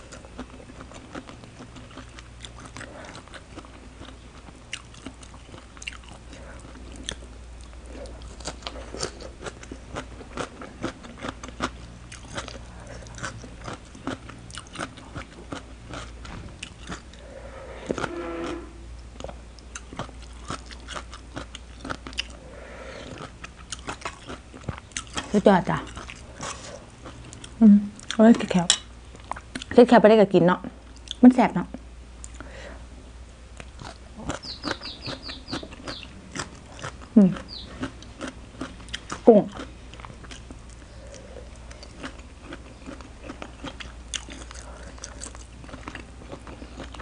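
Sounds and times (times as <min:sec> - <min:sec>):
crunchy chewing: 0:00.0 - 0:28.2, 0:33.5 - 0:47.0.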